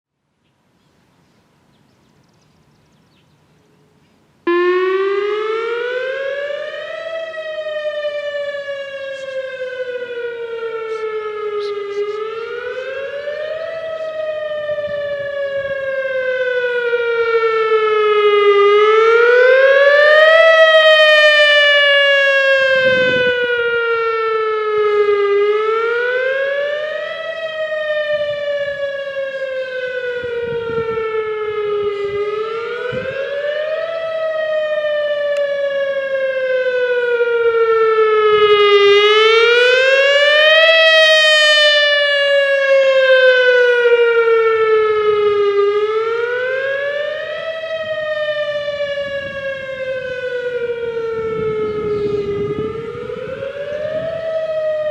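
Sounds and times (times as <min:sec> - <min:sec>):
electronic siren wailing: 0:04.4 - 0:54.9.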